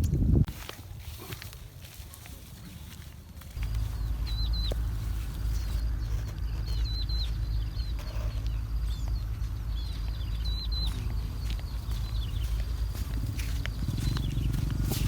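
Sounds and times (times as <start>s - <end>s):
small birds chirping: 1.0s - 15.0s
steady low rumble: 2.6s - 15.0s.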